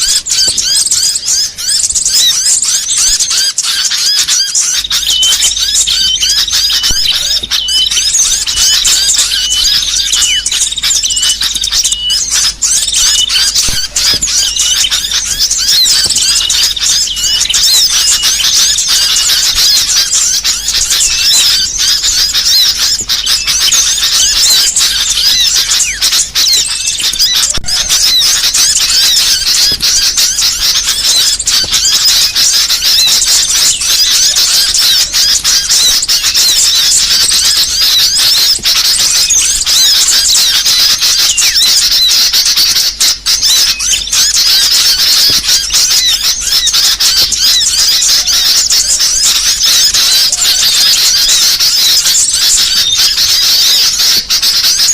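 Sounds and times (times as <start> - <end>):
songbird chirping and trilling: 0.0 - 54.9.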